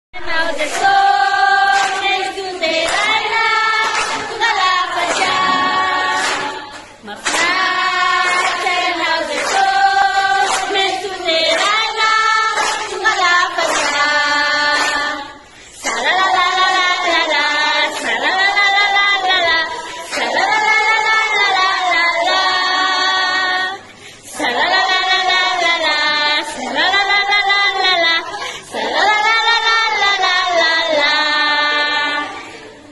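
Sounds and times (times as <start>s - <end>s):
women singing worship song: 0.2s - 32.9s.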